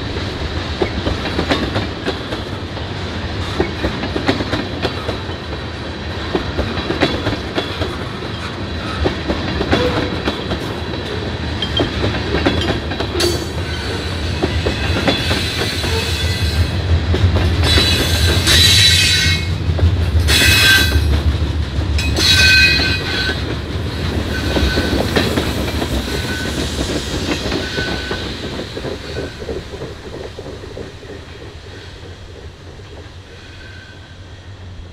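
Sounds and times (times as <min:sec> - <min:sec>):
train wheels clattering over rails: 0:00.0 - 0:34.1.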